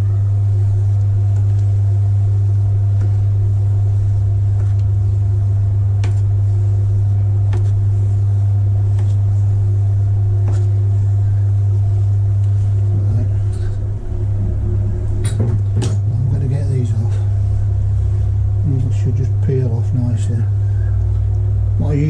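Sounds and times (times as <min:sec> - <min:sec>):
potter's wheel motor humming: 0:00.0 - 0:22.0.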